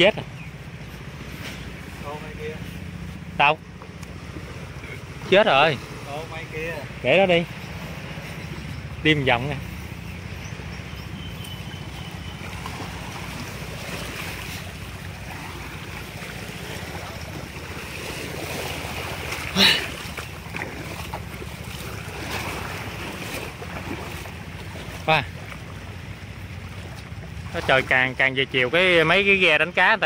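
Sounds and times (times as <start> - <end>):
small waves lapping around rocks: 0.0 - 30.0.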